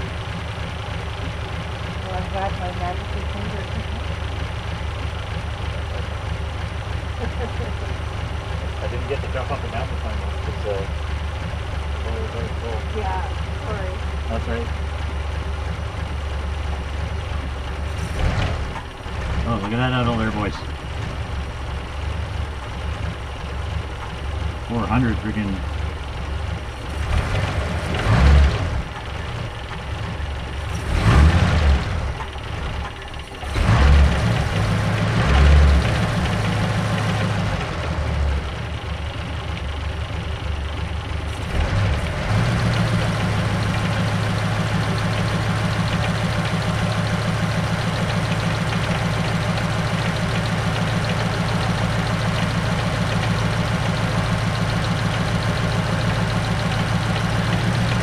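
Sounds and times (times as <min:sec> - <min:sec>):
car engine revving and idling: 0:00.0 - 0:58.0.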